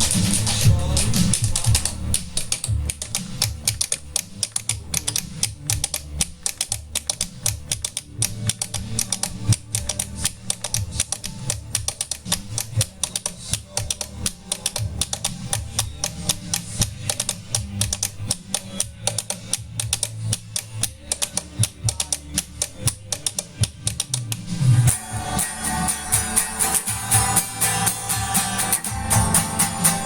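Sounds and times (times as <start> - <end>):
low droning bass line: 0.0 - 30.0
rapid clicking percussion: 0.0 - 30.0.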